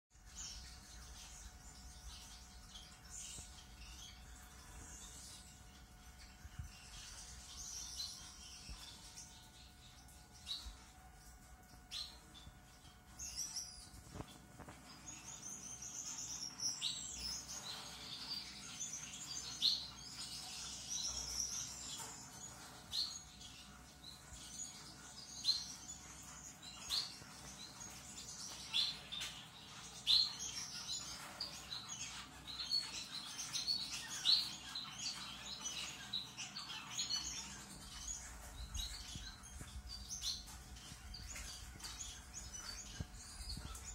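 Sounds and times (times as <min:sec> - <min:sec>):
finches chirping and twittering: 0:00.1 - 0:43.9.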